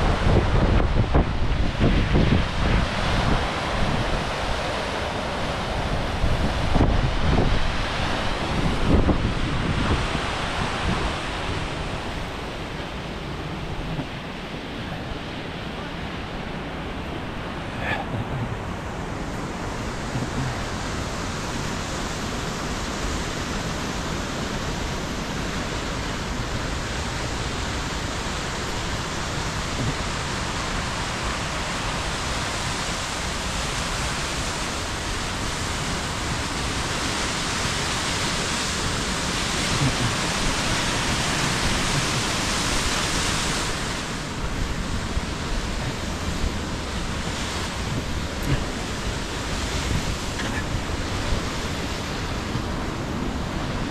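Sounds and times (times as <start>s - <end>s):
waterfall rushing over rock: 0.0s - 53.9s.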